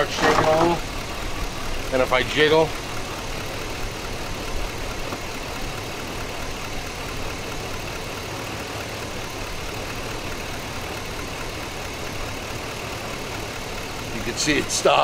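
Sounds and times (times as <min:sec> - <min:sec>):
car engine idling and misfiring: 0:00.0 - 0:15.0.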